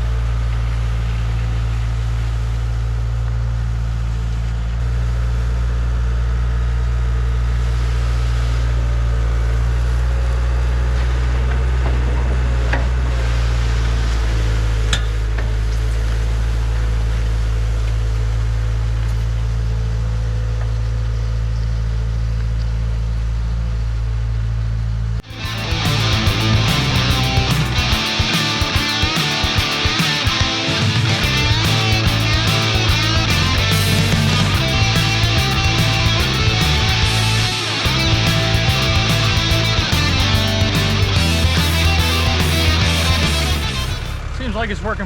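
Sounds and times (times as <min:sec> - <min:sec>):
skid steer engine running: 0:00.0 - 0:45.0.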